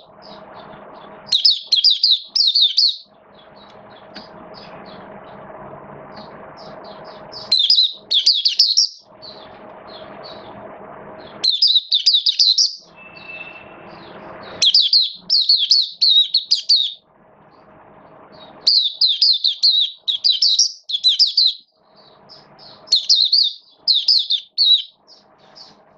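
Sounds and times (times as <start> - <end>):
bird twittering song: 0.0 - 10.6, 11.2 - 17.7, 18.3 - 25.9
low hum and hiss: 0.0 - 25.9.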